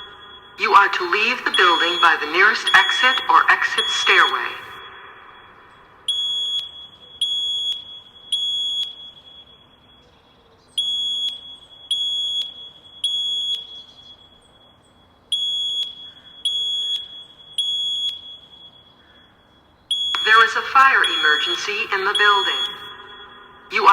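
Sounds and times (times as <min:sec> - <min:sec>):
fire alarm beeps: 0:00.0 - 0:23.9.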